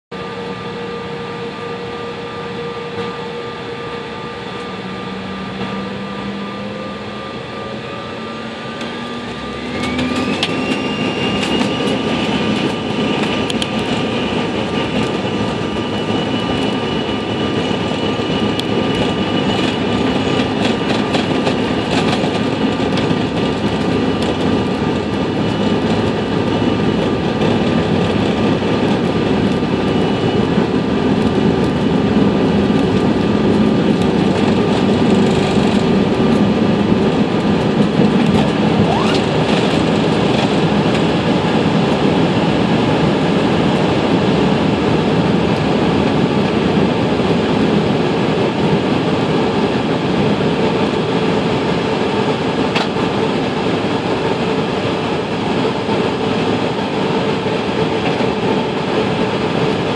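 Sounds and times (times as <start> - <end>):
jet engines whining and roaring: 0.1 - 59.9.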